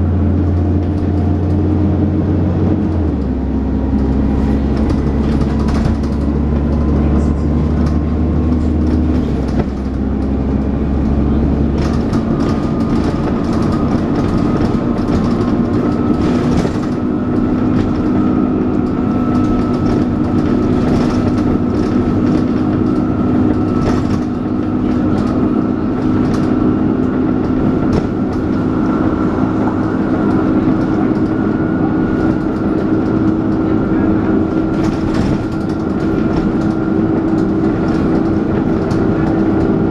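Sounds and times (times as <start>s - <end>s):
bus engine drone: 0.0s - 39.9s
interior rattles: 3.9s - 39.9s.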